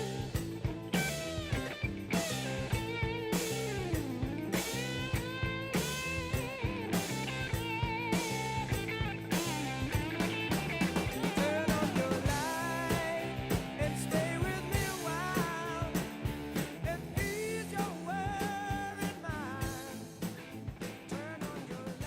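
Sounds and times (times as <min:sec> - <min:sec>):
rock music with drums: 0:00.0 - 0:22.0.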